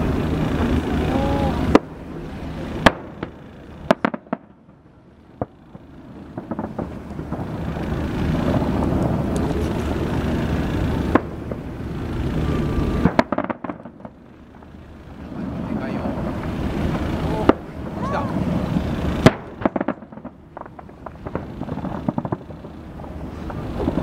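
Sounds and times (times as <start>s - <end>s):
firework shells bursting: 0.0s - 24.0s
rushing noise: 0.0s - 24.0s.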